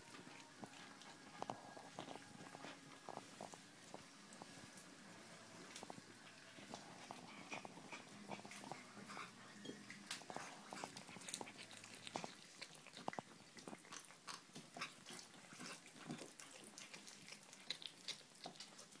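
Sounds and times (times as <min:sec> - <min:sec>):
kittens chewing meat: 0:00.0 - 0:19.0.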